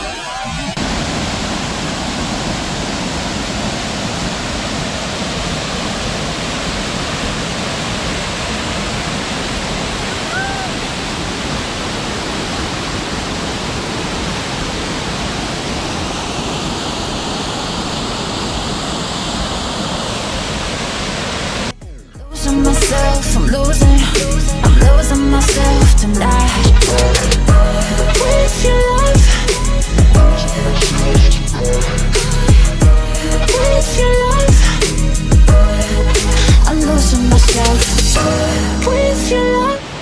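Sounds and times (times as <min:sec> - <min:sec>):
waterfall rushing: 0:00.0 - 0:21.7, 0:22.4 - 0:40.0.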